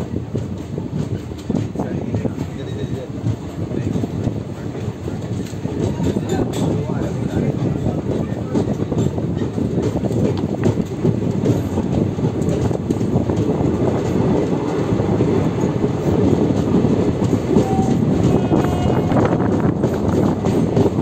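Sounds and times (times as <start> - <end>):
train wheels rumbling and clicking: 0.0 - 21.0.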